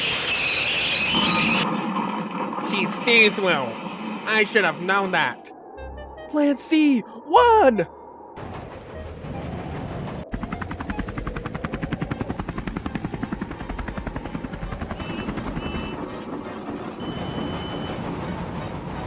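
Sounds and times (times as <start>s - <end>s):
helicopter rotor chop: 0.0s - 5.4s, 8.4s - 19.0s.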